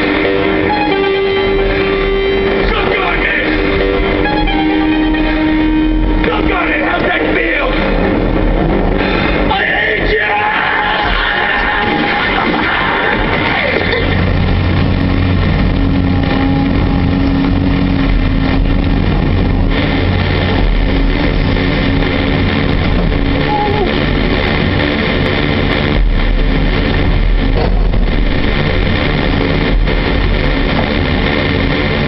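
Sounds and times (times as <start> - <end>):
excavator diesel engine and hydraulics: 0.0 - 32.0.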